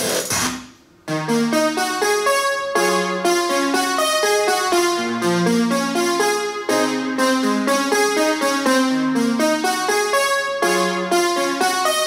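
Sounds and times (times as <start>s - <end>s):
music from a wireless speaker: 0.0s - 12.0s
electric piano keyboard notes: 1.1s - 12.0s.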